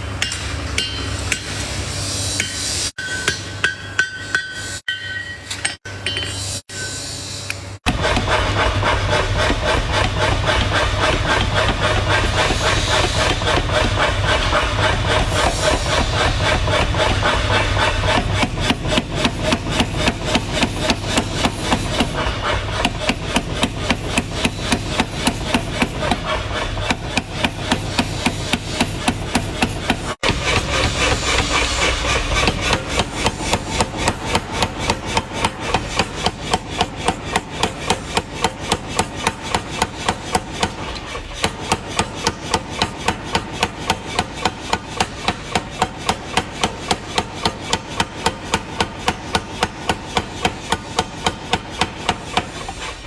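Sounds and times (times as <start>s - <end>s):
hammer striking metal: 0.2s - 52.8s.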